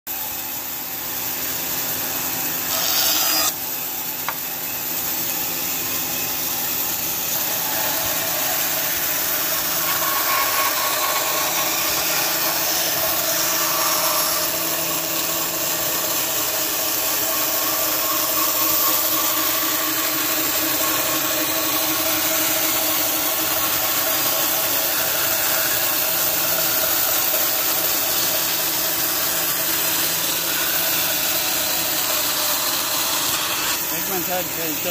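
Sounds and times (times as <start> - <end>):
bandsaw cutting wood: 0.1 - 34.9.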